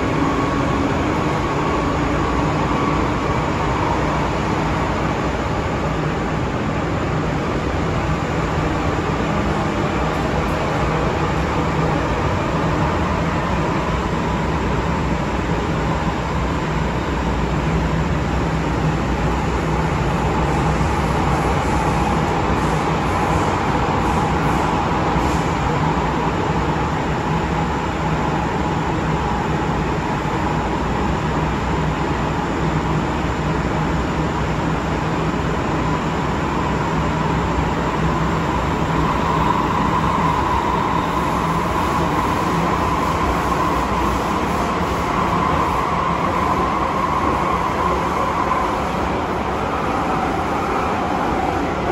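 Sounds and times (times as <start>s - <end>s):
train wheels rumbling on rail: 0.0s - 51.9s.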